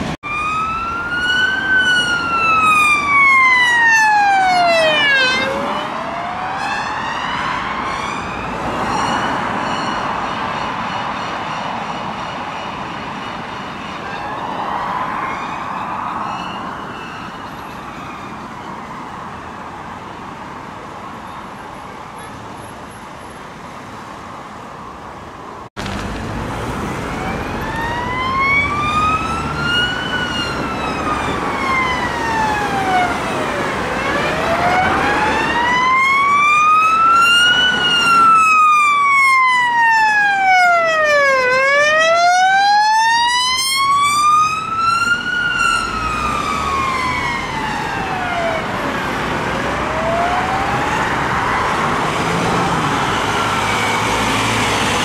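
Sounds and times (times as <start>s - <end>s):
police siren wailing: 0.0s - 10.5s, 14.0s - 19.4s, 26.7s - 55.0s
road traffic: 0.0s - 55.0s.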